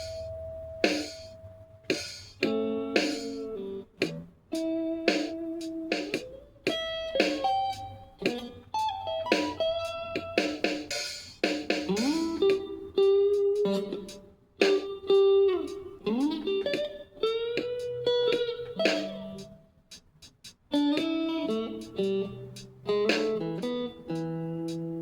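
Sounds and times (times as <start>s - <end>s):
guitar plucked notes: 0.0s - 10.9s, 11.7s - 19.7s, 20.7s - 25.0s.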